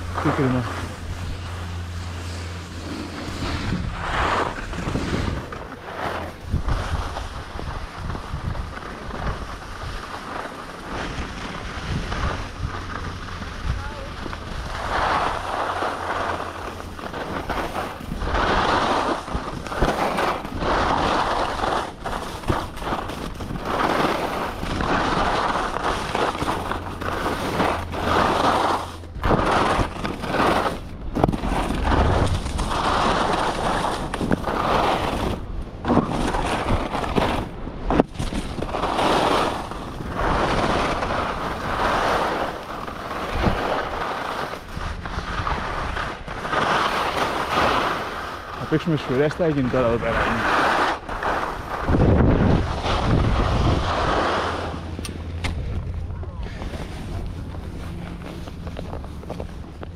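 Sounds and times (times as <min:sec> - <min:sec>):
skis scraping on snow: 0:00.0 - 0:59.9
wind rumble on microphone: 0:00.0 - 0:59.9.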